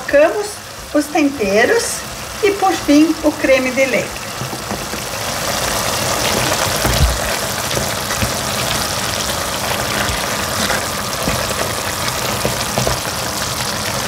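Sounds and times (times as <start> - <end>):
water simmering in a pan: 0.0 - 14.0.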